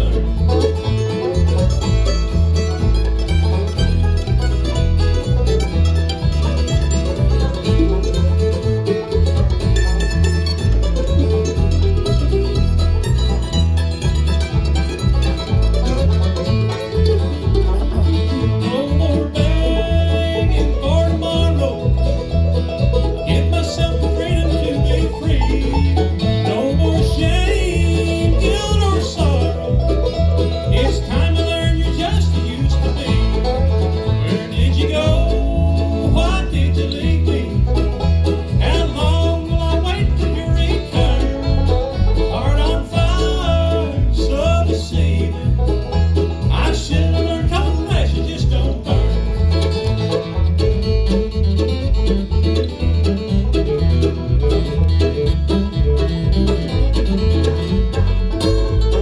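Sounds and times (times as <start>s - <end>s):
banjo: 0.0s - 59.0s
guitar: 0.0s - 59.0s
steady bass rhythm: 0.0s - 59.0s.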